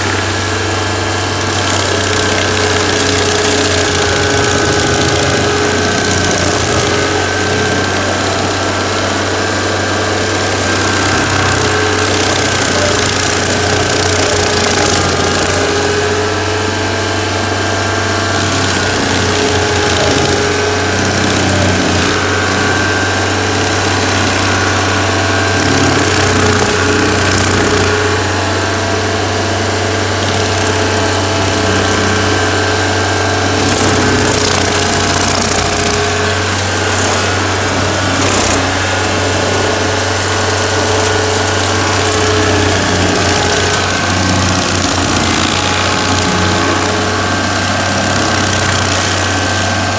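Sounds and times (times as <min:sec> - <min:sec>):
cutter wheel grinding wood: 0:00.0 - 0:49.9
gasoline engine running: 0:00.0 - 0:49.9.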